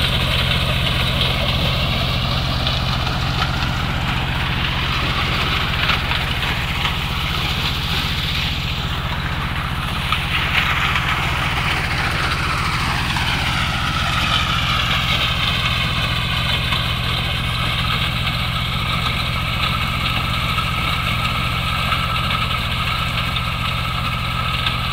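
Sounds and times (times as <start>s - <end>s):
low engine drone: 0.0s - 24.9s.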